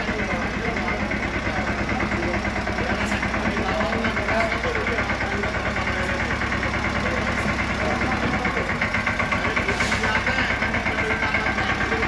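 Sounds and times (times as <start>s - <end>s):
faint voices: 0.0s - 12.0s
tractor diesel engine running: 0.0s - 12.0s.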